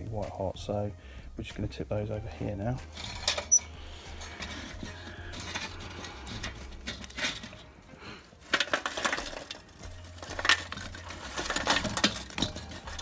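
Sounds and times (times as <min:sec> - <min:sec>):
charcoal lumps clattering onto coals: 0:00.0 - 0:13.0.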